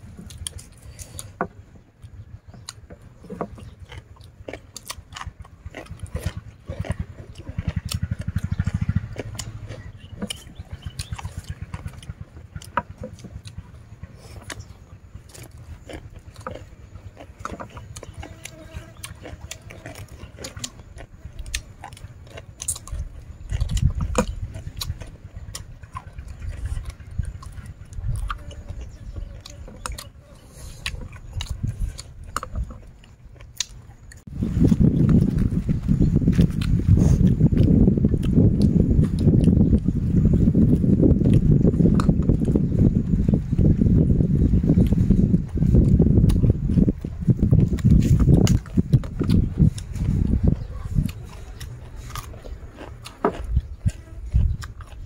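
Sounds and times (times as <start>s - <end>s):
low rumble: 0.0s - 55.0s
people chewing and crunching: 0.0s - 55.0s.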